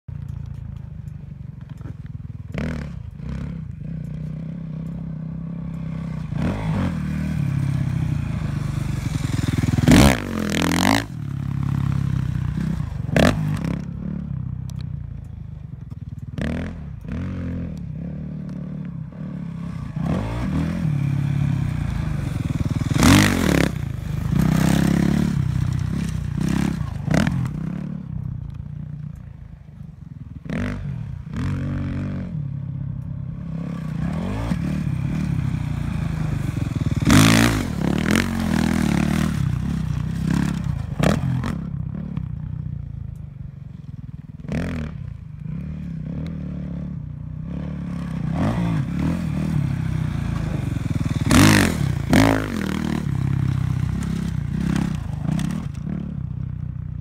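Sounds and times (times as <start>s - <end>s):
dirt bike engine revving: 1.8s - 14.6s, 16.3s - 42.6s, 43.7s - 56.4s.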